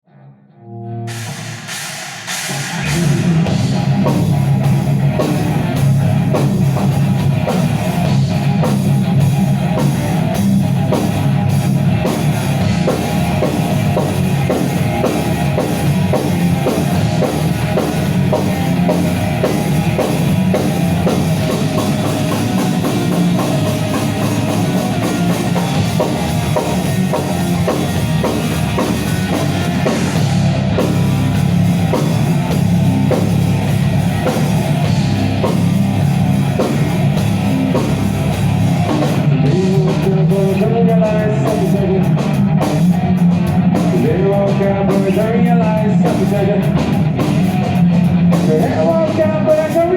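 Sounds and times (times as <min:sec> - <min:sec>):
metal band playing: 0:01.1 - 0:49.9.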